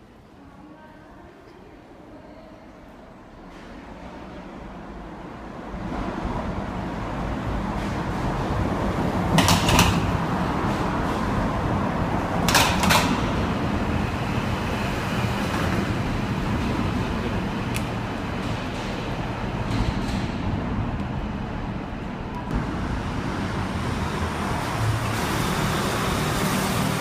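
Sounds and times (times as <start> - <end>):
traffic rumble in tunnel: 0.0 - 27.0.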